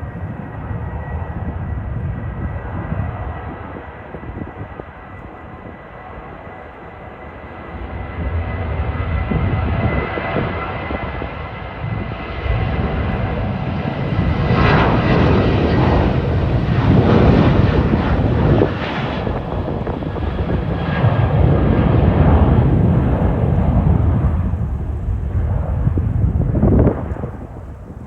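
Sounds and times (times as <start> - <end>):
jet engines running: 0.0 - 28.0
wind on microphone: 0.0 - 28.0.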